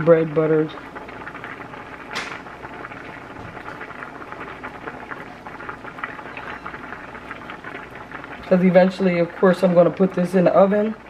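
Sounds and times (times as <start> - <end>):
pot boiling and bubbling: 0.0 - 11.0.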